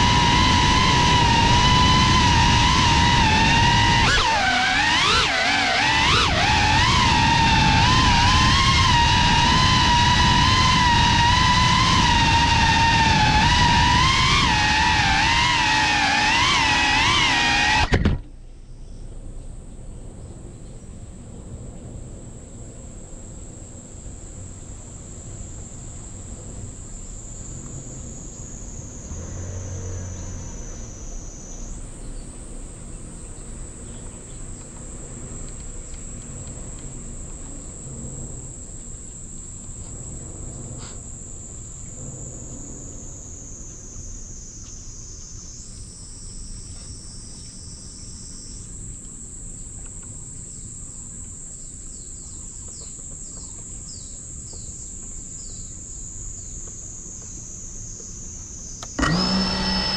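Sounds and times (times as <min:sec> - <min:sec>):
high-pitched insect drone: 0:00.0 - 0:18.0, 0:23.8 - 0:59.9.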